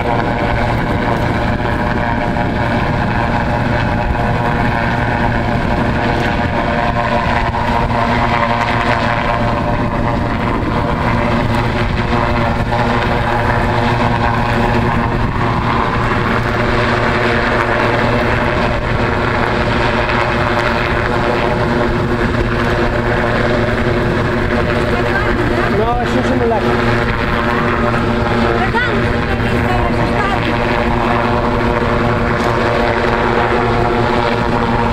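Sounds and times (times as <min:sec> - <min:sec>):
helicopter rotor drone: 0:00.0 - 0:34.9.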